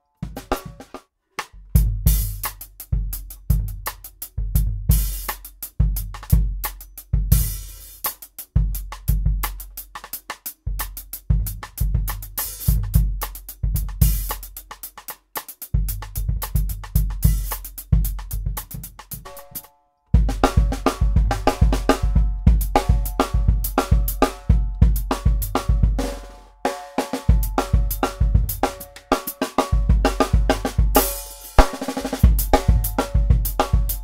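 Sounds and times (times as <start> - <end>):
drum kit groove: 0.0 - 34.0.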